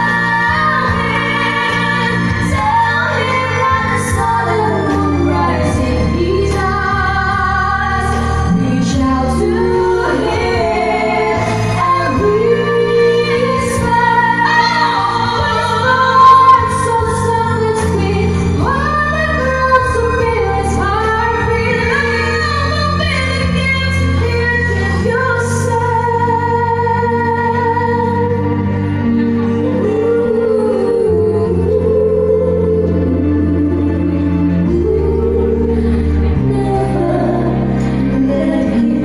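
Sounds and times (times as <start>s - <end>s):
instrumental accompaniment: 0.0s - 39.0s
two women singing a pop ballad: 0.0s - 39.0s.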